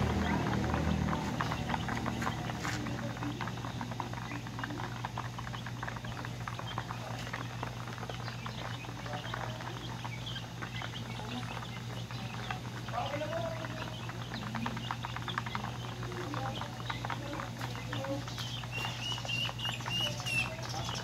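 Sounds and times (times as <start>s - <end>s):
chicks peeping: 0.0s - 21.0s
steady low hum: 0.0s - 21.0s.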